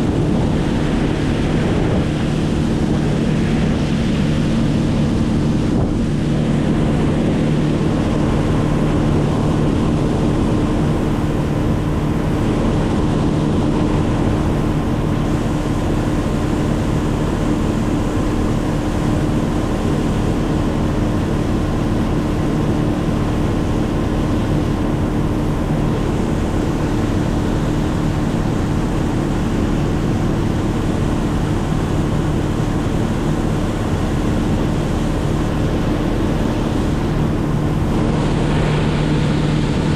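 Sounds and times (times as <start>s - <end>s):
motor running steadily: 0.0s - 39.9s.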